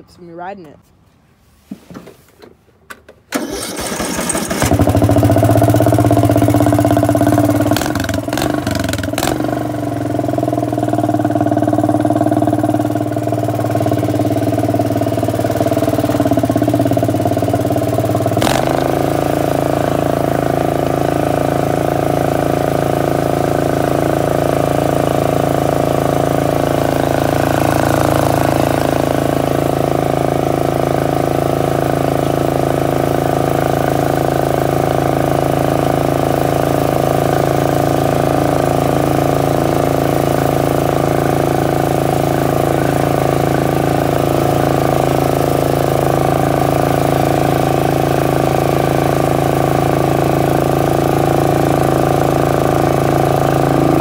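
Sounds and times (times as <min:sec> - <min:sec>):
garden tractor engine running: 0:03.3 - 0:54.0.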